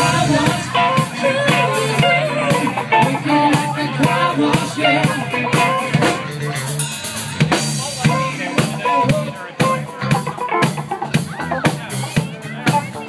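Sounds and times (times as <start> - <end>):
bass guitar: 0.0 - 13.0
drum kit beat: 0.0 - 13.0
electric guitars: 0.0 - 13.0.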